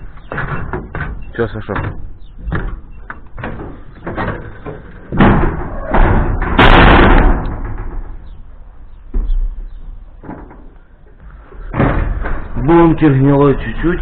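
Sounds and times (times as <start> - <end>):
metal knocks and bangs: 0.0 - 13.2.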